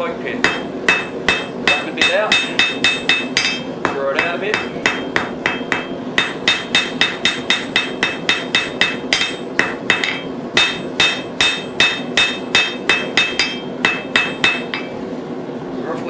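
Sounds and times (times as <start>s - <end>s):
hammer striking metal on anvil: 0.4s - 15.0s.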